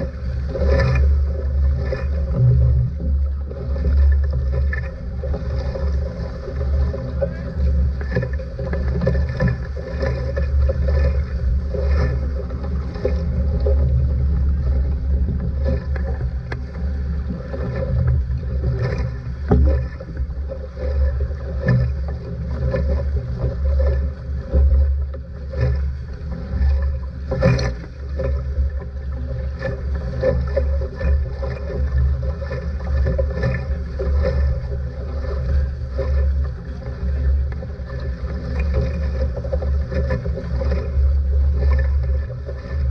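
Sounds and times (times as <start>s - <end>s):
water rushing along a hull: 0.0s - 42.9s
waves slapping against the hull: 0.0s - 42.9s.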